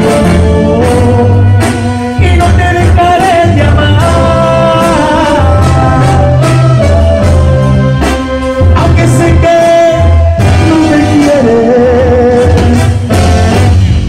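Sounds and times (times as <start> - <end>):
bass line: 0.0 - 14.0
trumpets and trombones playing: 0.0 - 14.0.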